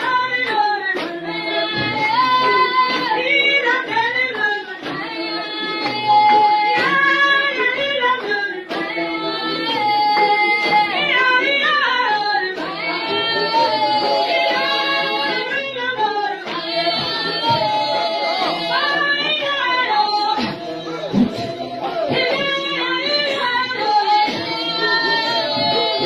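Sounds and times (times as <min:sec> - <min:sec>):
high voices singing: 0:00.0 - 0:26.0.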